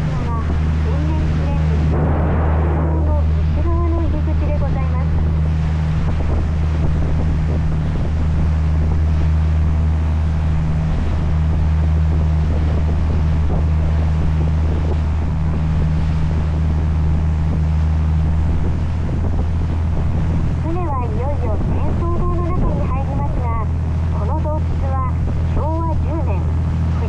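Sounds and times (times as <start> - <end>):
boat engine droning: 0.0 - 27.0
water washing against hull: 0.0 - 27.0
wind on microphone: 0.0 - 27.0.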